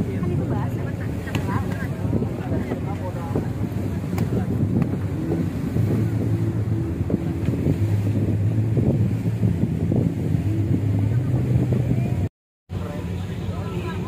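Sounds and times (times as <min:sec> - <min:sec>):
boat engine humming: 0:00.0 - 0:14.0
wind on microphone: 0:00.0 - 0:14.0.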